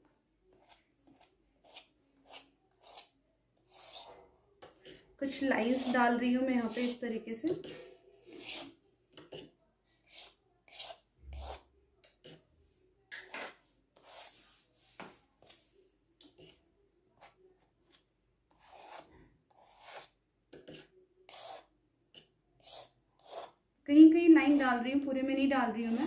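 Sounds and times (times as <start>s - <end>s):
painting tool scraping strokes: 0.5s - 12.5s, 13.4s - 15.8s, 17.2s - 23.6s, 24.4s - 24.8s, 25.7s - 26.0s.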